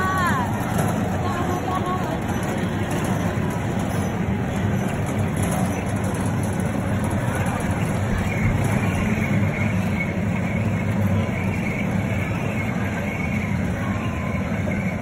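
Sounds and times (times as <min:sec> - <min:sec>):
wheels rumbling on rails: 0:00.0 - 0:15.0.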